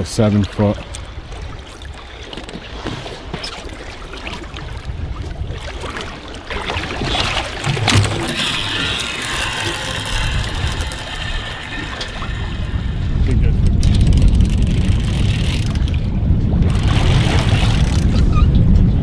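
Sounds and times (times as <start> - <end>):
water splashing against boat: 0.0 - 19.0.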